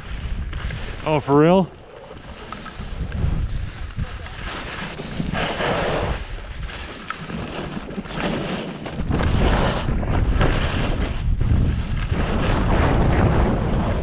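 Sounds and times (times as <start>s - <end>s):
skis scraping on snow: 0.0s - 14.0s
wind on camera microphone: 0.0s - 14.0s.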